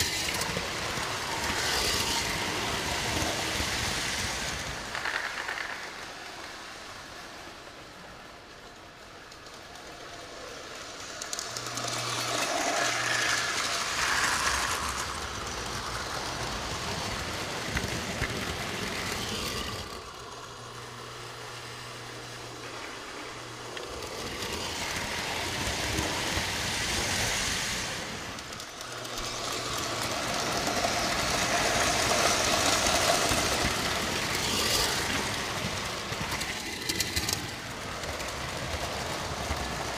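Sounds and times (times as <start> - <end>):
model trains rolling on metal track: 0.0 - 39.9.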